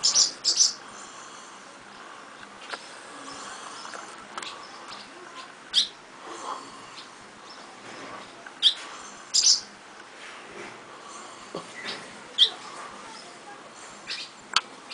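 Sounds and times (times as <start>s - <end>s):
swallows chirping: 0.0s - 9.8s, 11.0s - 14.9s.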